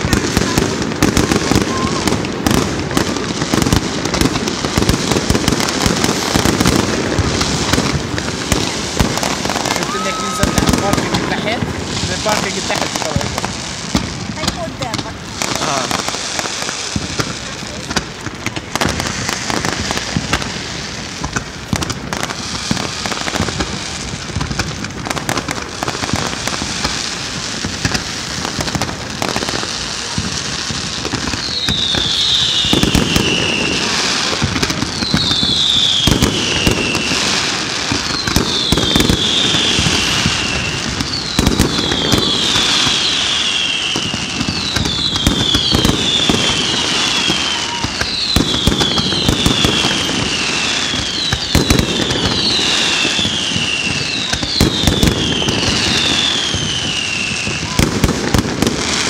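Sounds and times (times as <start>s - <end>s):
firework falling whistles: 0.0s - 14.5s, 15.3s - 59.0s
fireworks crackling and banging: 0.0s - 59.0s.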